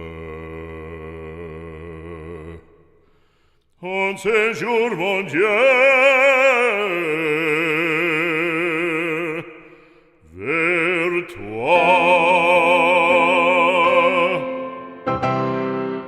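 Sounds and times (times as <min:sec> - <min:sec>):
operatic solo voice singing: 0:00.0 - 0:03.0, 0:03.8 - 0:15.1.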